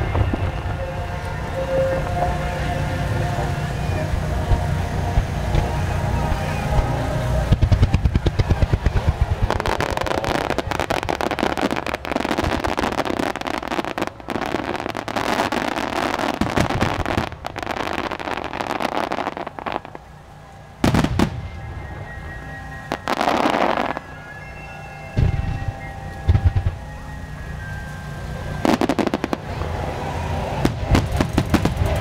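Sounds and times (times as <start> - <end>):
fireworks bursting: 0.0 - 32.0
fireworks crackling: 0.0 - 32.0.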